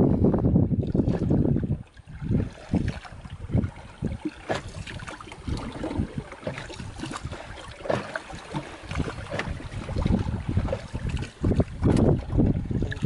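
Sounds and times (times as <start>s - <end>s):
wind buffeting microphone: 0.0s - 13.0s
water slapping boat hull: 0.1s - 13.0s.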